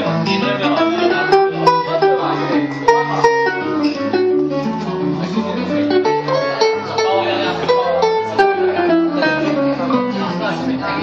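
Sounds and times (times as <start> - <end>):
jazz guitar melody and chords: 0.0 - 11.0.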